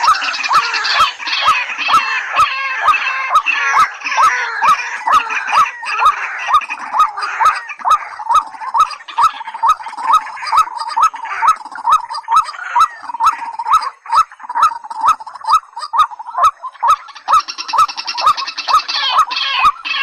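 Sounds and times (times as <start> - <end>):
rail bird calling: 0.0 - 20.0.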